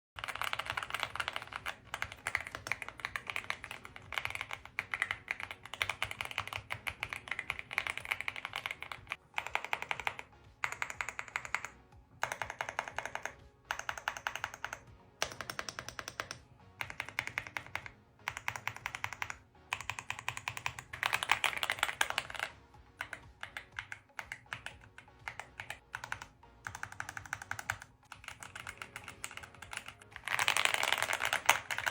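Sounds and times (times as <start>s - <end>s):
background music: 0.2s - 31.9s
mechanical keyboard typing: 0.2s - 31.9s.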